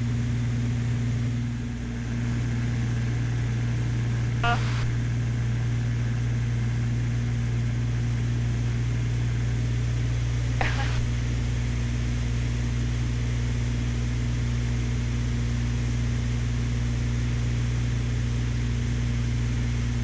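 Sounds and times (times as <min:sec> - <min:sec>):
aircraft cabin engine drone: 0:00.0 - 0:20.0.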